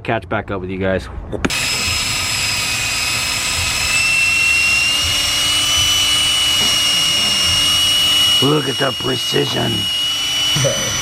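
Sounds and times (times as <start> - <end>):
rotary power tool whining: 1.5 - 11.0.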